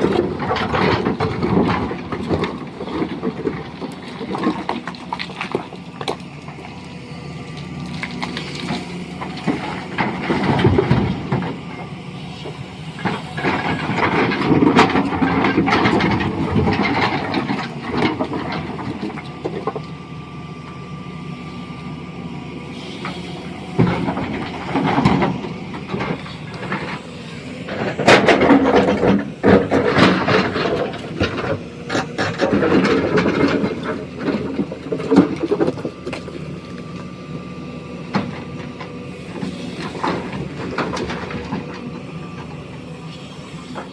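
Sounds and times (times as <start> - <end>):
stone-crushing machinery humming: 0.0 - 43.9.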